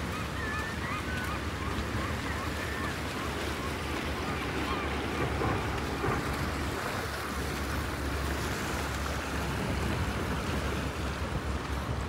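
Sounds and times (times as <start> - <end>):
river rippling: 0.0 - 12.0
wind buffeting microphone: 0.0 - 12.0.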